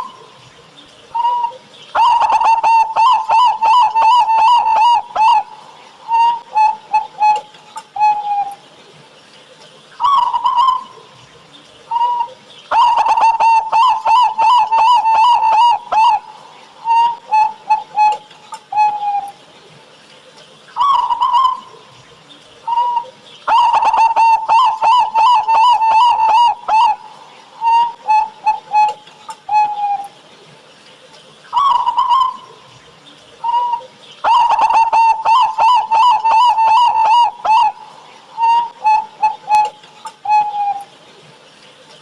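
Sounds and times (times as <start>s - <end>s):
dove cooing: 1.2s - 8.6s, 10.0s - 11.2s, 11.9s - 19.4s, 20.8s - 30.2s, 31.6s - 40.9s.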